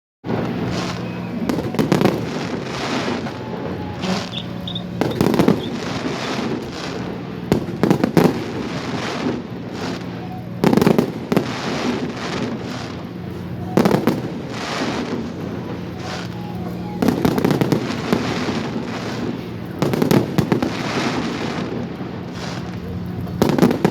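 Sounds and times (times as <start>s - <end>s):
fireworks bursting with bangs: 0.2s - 23.9s
fireworks crackling: 0.2s - 23.9s.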